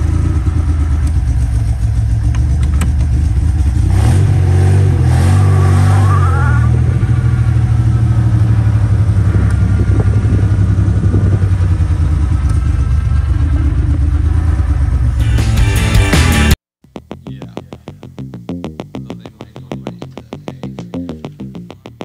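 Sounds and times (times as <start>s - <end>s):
car engine revving and idling: 0.0s - 17.8s.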